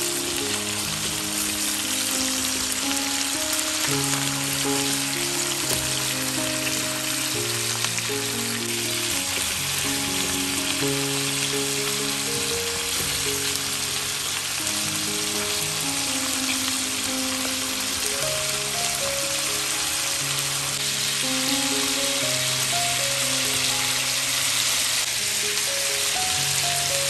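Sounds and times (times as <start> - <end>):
chicken sizzling in a pan: 0.0 - 27.0
soft background music: 0.0 - 27.0.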